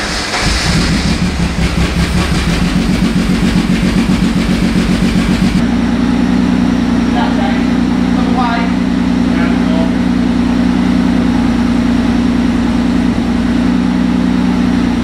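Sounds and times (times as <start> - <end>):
car engine idling unevenly: 0.0 - 15.0.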